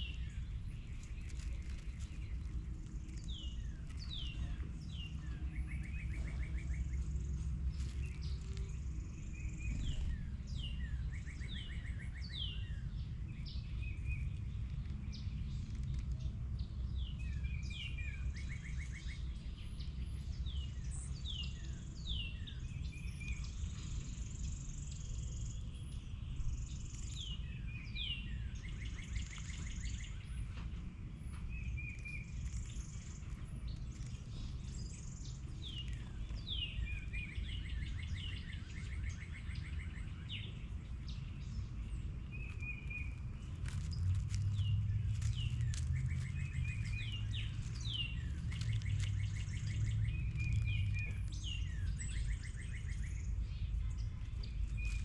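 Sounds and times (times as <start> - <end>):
songbirds calling and singing: 0.0 - 55.0
steady low rumble: 0.0 - 55.0.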